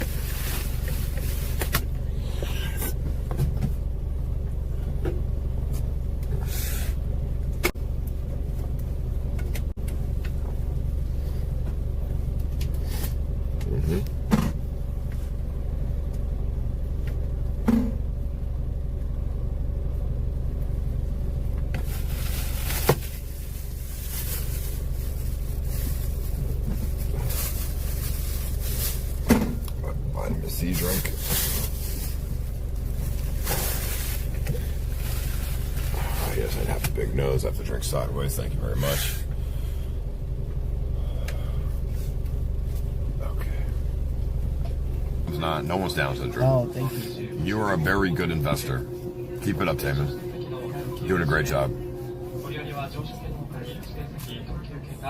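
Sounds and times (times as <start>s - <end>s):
train rumbling inside carriage: 0.0s - 7.8s, 8.4s - 18.3s, 19.0s - 39.8s, 41.0s - 55.0s.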